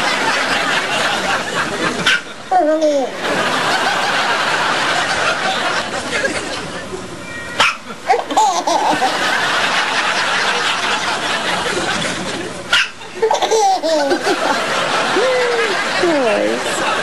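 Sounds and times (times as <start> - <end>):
laughter: 0.0 - 2.5, 3.1 - 7.1, 7.9 - 17.0.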